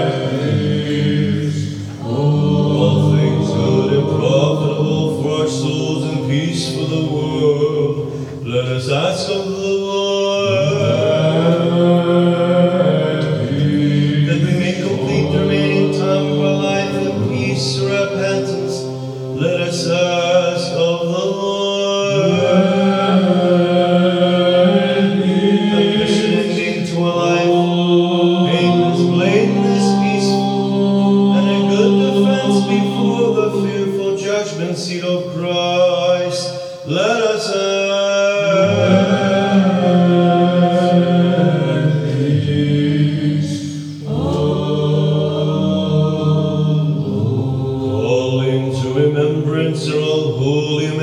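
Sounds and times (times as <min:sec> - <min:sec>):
choir chanting: 0:00.0 - 0:51.0
low vocal drone: 0:00.0 - 0:51.0.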